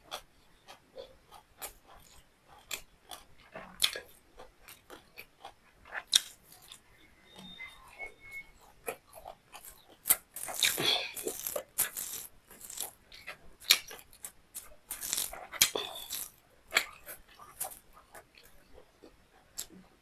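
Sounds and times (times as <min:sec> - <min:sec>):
person chewing with mouth smacks: 0:00.1 - 0:06.9, 0:07.9 - 0:19.9.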